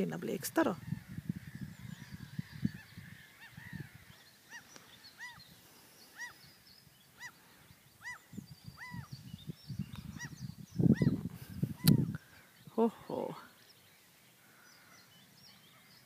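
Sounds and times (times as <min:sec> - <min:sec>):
bird calling: 0:00.0 - 0:16.0
small birds chirping: 0:00.0 - 0:16.0.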